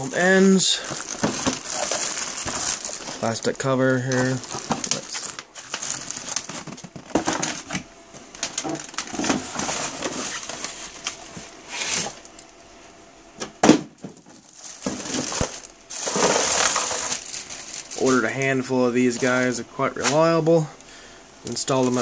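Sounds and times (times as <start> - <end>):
plastic and cardboard crinkling: 0.0 - 12.6, 14.0 - 20.6, 21.5 - 22.0.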